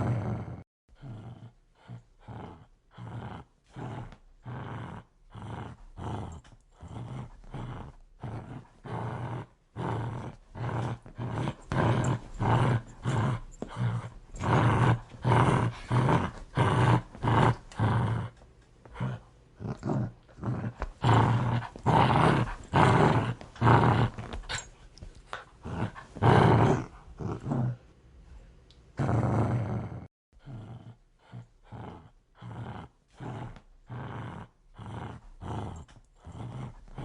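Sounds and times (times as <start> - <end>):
dog growling: 0.0 - 27.8, 29.0 - 37.0.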